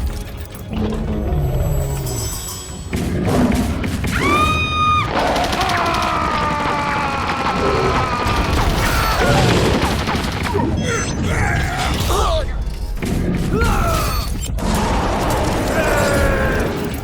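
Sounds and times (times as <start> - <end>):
music: 0.0 - 17.0.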